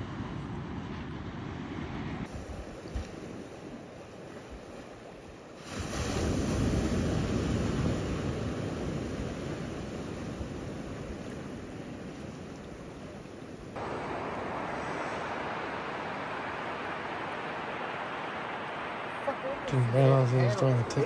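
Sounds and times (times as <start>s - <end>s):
small waves washing at shoreline: 0.0s - 21.0s.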